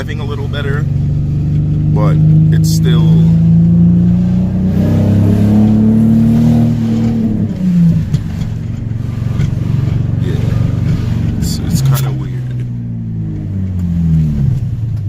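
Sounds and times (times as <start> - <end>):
car engine running while driving: 0.0 - 15.0.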